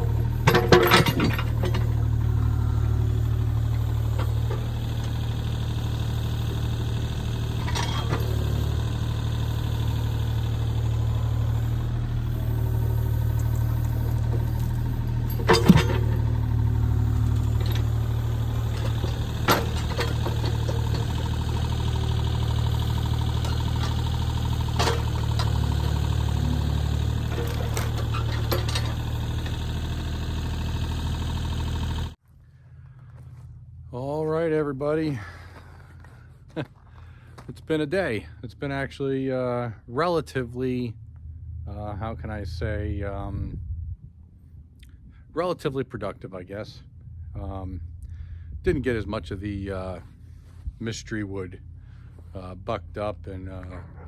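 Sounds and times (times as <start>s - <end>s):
engine running at low speed: 0.0s - 54.0s.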